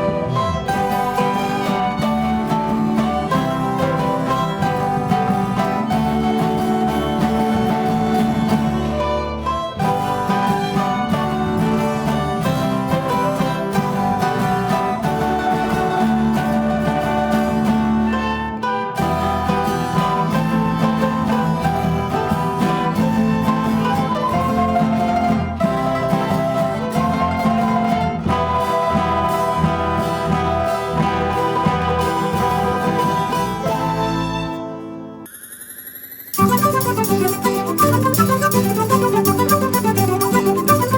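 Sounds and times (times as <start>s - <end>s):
plucked strings and fiddle music: 0.0s - 35.3s, 36.4s - 40.9s.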